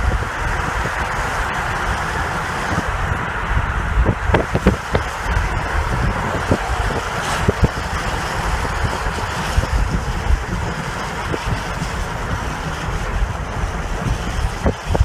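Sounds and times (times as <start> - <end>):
steady rushing roar: 0.0 - 15.0
wind buffeting microphone: 0.0 - 15.0.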